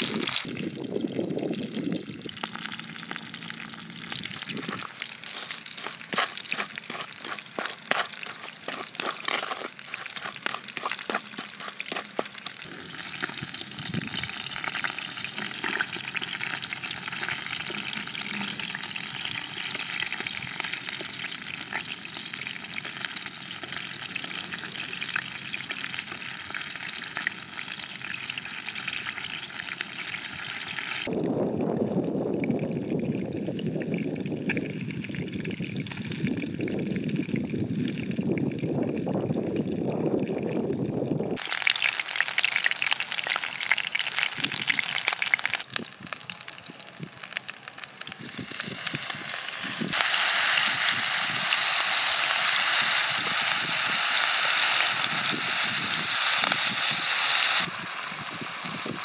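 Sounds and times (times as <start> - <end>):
food sizzling in hot oil: 0.0 - 0.9, 1.6 - 31.1, 41.4 - 59.0
wind: 0.0 - 59.0.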